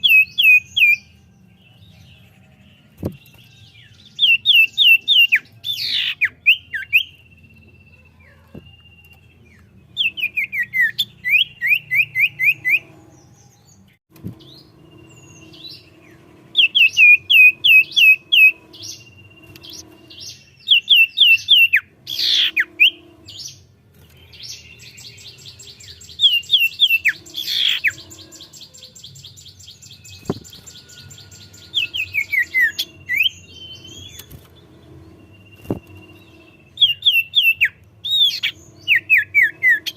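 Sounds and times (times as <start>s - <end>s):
bird singing whistles and trills: 0.0s - 1.9s, 3.0s - 13.0s, 14.4s - 39.9s.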